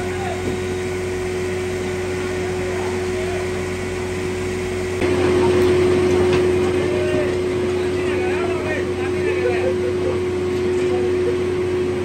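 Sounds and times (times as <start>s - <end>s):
machinery hum with constant tone: 0.0s - 12.0s.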